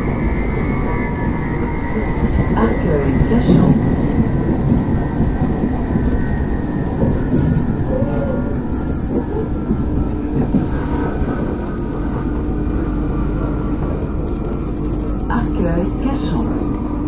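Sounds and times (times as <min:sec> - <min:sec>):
electric train rumble: 0:00.0 - 0:17.0
faint whining traction tones: 0:00.0 - 0:17.0.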